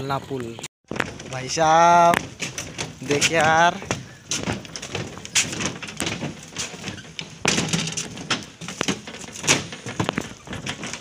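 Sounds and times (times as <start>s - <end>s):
footbridge knocking and rattling: 0.9s - 11.0s.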